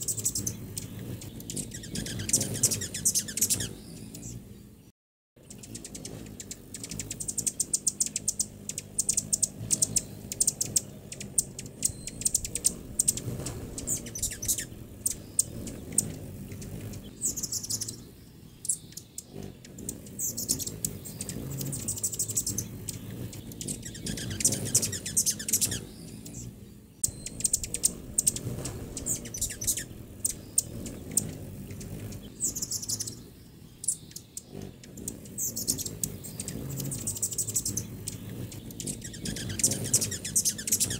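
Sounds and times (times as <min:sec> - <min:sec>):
hummingbirds chirping: 0:00.0 - 0:40.9.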